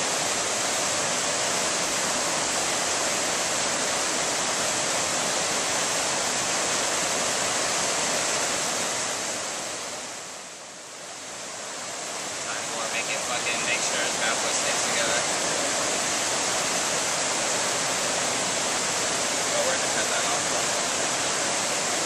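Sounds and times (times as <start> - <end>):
river flowing over rocks: 0.0 - 22.0.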